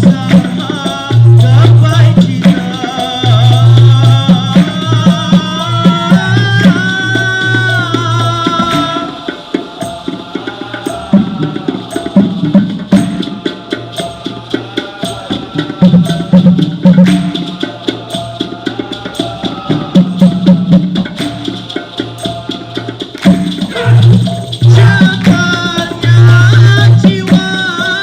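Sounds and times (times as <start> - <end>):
hand drums beating: 0.0 - 28.0.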